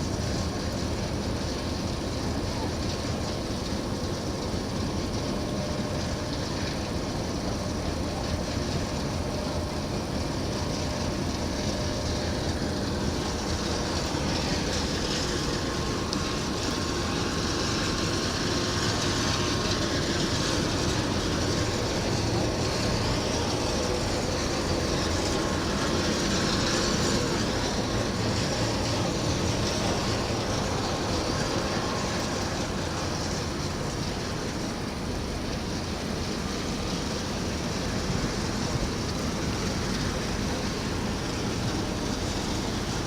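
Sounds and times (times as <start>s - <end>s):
boat engine rumble: 0.0s - 43.0s
wind and water rushing: 0.0s - 43.0s.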